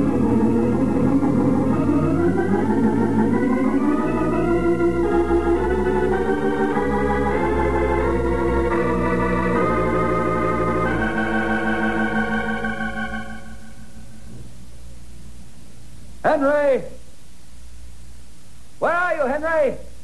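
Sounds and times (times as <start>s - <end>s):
organ chords: 0.0s - 17.1s.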